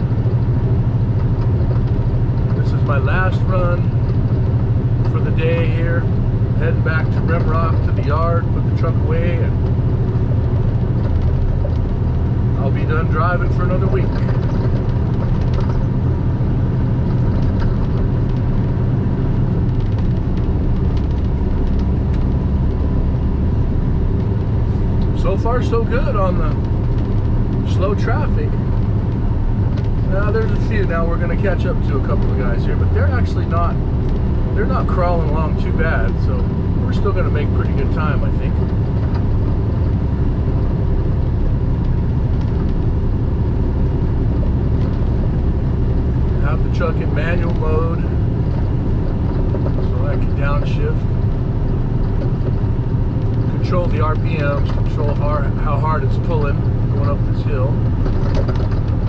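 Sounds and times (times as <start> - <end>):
diesel truck engine drone: 0.0 - 59.0
tyre and road noise: 0.0 - 59.0.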